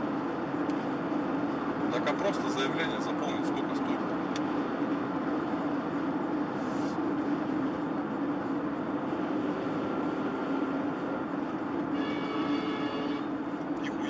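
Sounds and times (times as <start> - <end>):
vehicle engine and road drone: 0.0 - 14.0.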